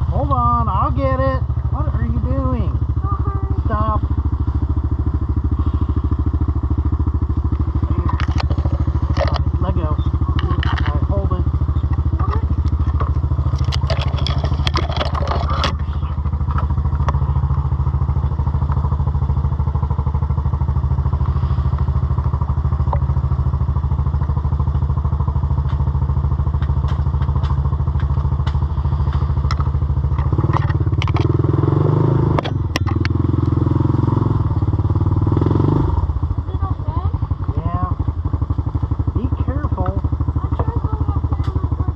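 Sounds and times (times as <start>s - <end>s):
off-road vehicle engine revving: 0.0s - 41.9s.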